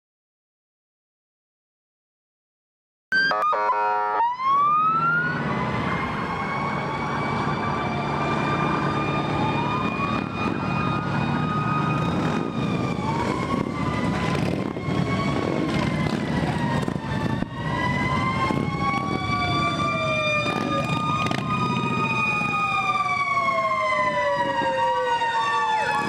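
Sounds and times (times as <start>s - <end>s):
fire engine siren: 3.1s - 26.0s
vehicle engines rumbling: 4.3s - 26.0s.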